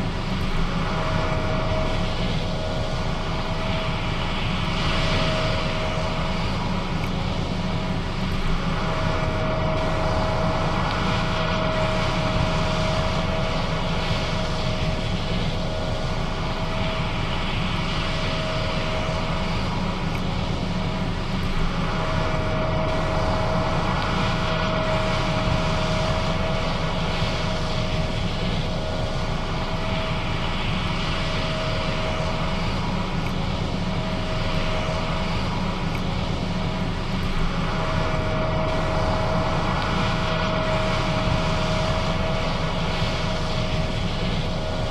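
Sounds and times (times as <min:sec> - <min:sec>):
combine harvester engine drone: 0:00.0 - 0:44.9
machinery whine: 0:00.0 - 0:44.9.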